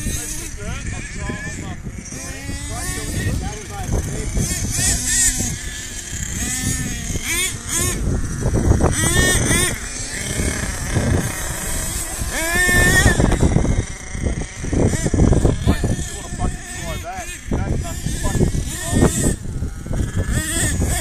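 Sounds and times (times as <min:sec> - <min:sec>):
toy truck engines revving: 0:00.0 - 0:21.0.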